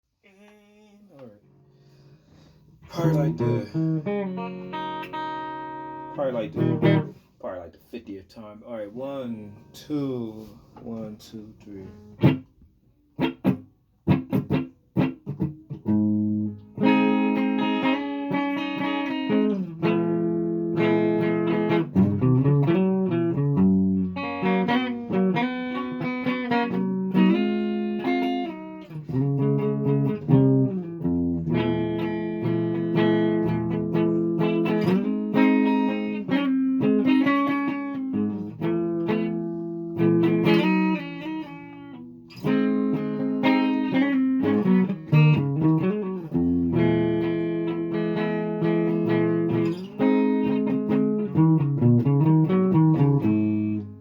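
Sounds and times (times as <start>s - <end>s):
guitar playing: 0.3s - 54.0s.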